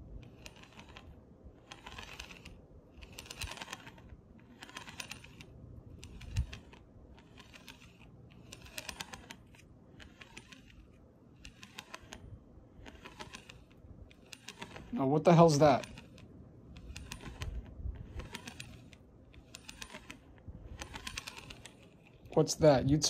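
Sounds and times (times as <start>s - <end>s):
shaft rolling with rapid ticking: 0.0s - 23.0s.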